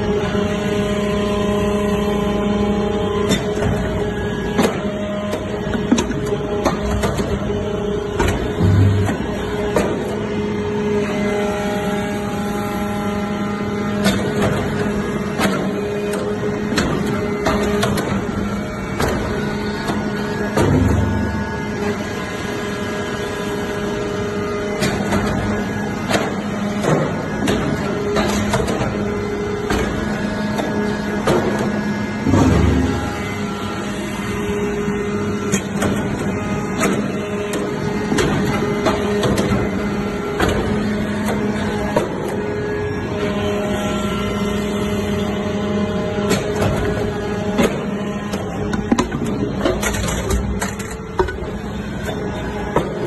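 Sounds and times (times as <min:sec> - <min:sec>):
high machine whine: 0:00.0 - 0:53.0
machine humming: 0:00.0 - 0:53.0.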